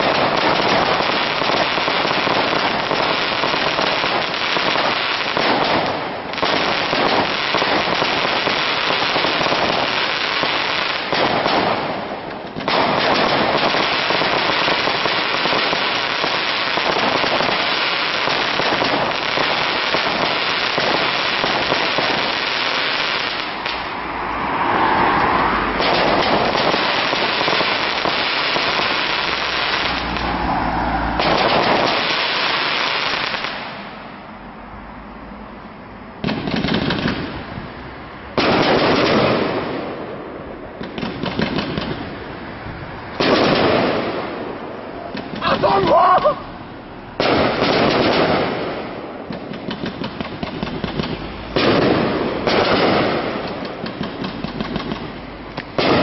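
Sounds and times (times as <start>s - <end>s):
fireworks pops and bangs: 0.0s - 24.0s, 25.1s - 30.4s, 31.1s - 33.9s, 36.2s - 37.5s, 38.4s - 42.2s, 43.1s - 45.8s, 47.2s - 56.0s.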